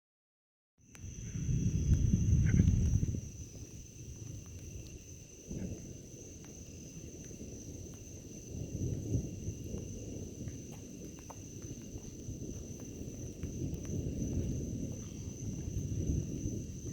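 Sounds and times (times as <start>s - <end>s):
insects chirring: 0.8s - 16.9s
thunder rumbling: 1.0s - 16.9s.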